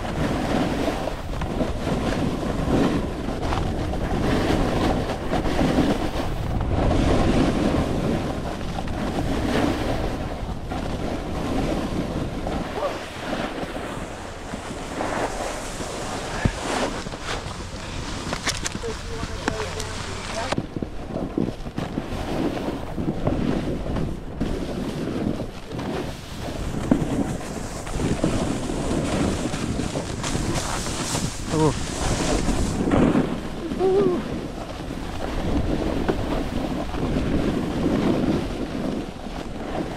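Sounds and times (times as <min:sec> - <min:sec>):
snowboard scraping over snow: 0:00.0 - 0:39.9
wind buffeting microphone: 0:00.0 - 0:39.9.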